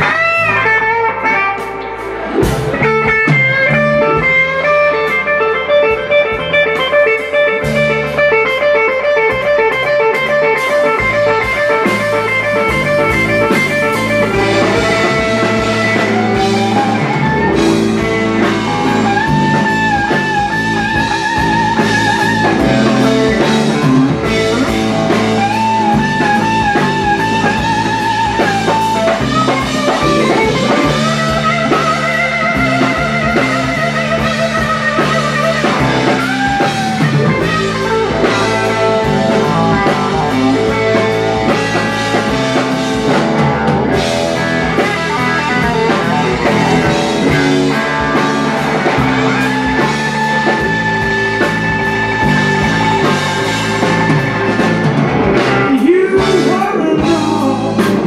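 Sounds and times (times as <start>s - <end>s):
bass guitar: 0.0s - 58.0s
drums: 0.0s - 58.0s
electric guitar solo: 0.0s - 58.0s.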